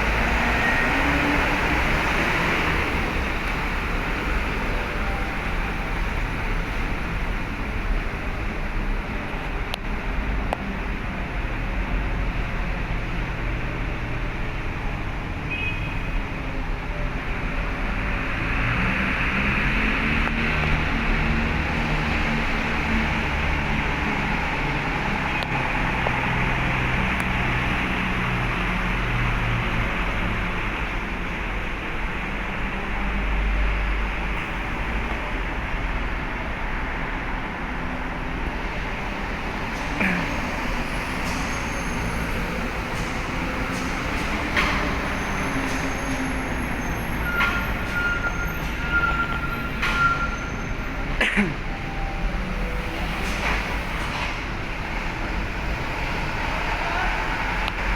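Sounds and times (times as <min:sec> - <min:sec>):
diesel truck engines running: 0:00.0 - 0:57.9.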